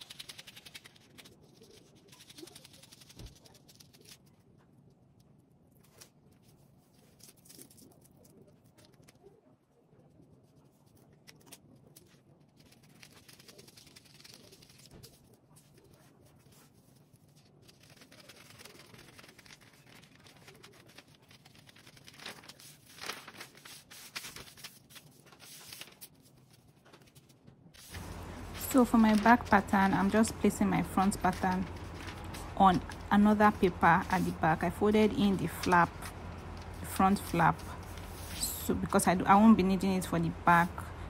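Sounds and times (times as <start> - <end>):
paper rustling and crinkling: 0.0 - 4.7, 5.7 - 9.4, 10.0 - 39.6.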